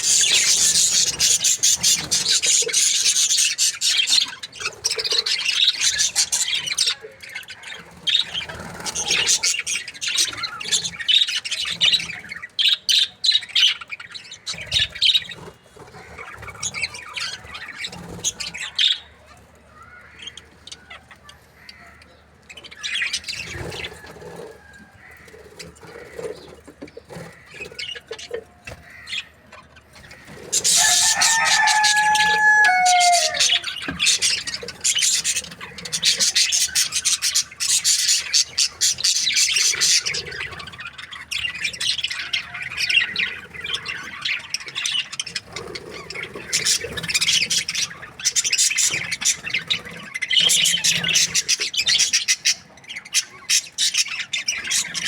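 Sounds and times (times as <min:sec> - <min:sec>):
budgerigars chirping and chattering: 0:00.0 - 0:55.0.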